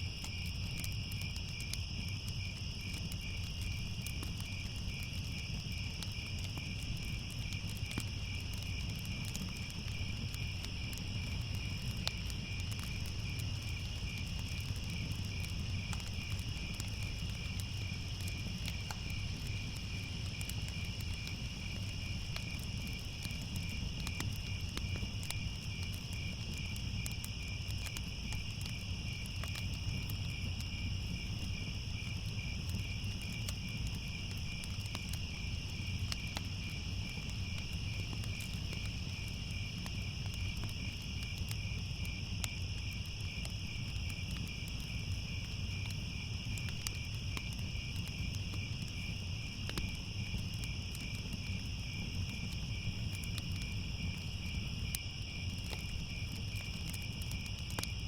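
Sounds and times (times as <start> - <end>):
crickets chirping: 0.0 - 58.0
faint crackles: 0.1 - 58.0.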